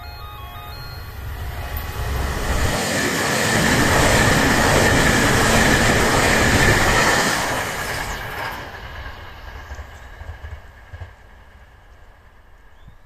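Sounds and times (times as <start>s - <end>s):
high whine of train: 0.0s - 13.0s
train passing at speed: 0.0s - 13.0s.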